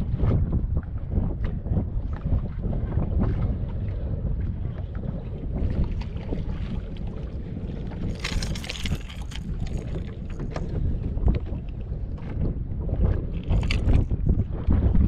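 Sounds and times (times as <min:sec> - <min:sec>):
waves lapping against boat hull: 0:00.0 - 0:15.0
wind buffeting microphone: 0:00.0 - 0:15.0.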